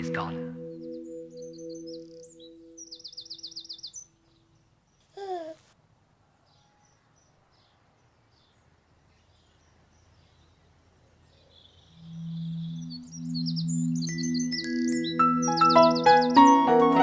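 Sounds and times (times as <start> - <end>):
faint birds chirping: 0.0 - 16.8.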